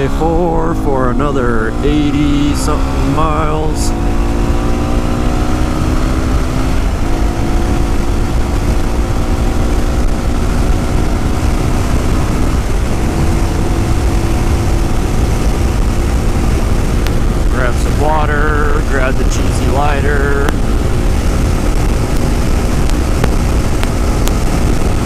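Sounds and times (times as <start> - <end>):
motorcycle engine running: 0.0 - 25.0
wind rumble on microphone: 0.0 - 25.0.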